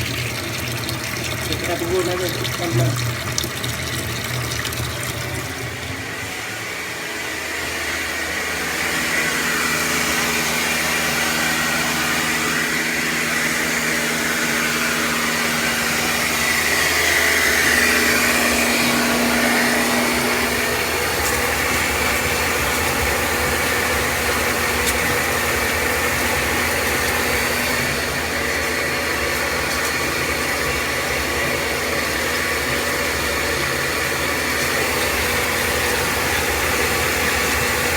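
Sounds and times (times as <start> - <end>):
machine motor humming: 1.3 - 37.9.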